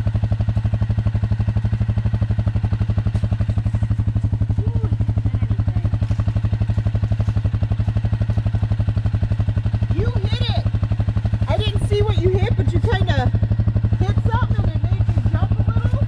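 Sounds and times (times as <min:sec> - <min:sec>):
atv engine idling: 0:00.0 - 0:16.0.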